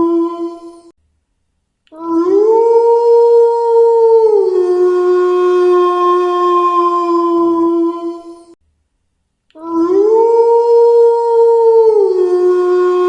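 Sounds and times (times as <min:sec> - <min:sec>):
wolf howling: 0:00.0 - 0:00.9, 0:02.0 - 0:08.6, 0:09.6 - 0:13.0.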